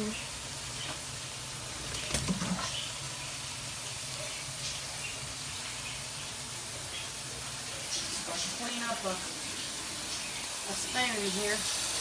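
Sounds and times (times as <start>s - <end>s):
green beans sizzling in a pan: 0.0s - 12.0s.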